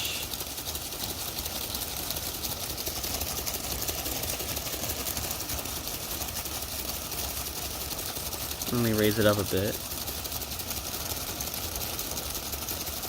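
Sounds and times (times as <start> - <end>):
toy motors whirring and rattling: 0.0 - 13.0.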